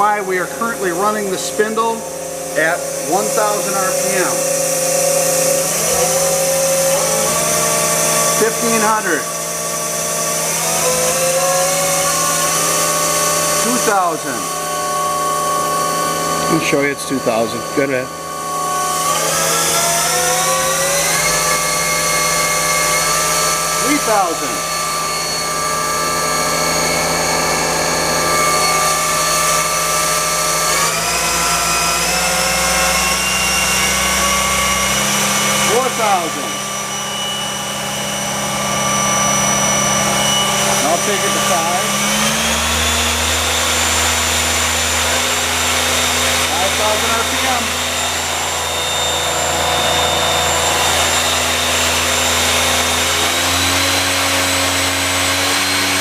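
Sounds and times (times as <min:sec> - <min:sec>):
lathe spindle whining: 0:00.0 - 0:56.0.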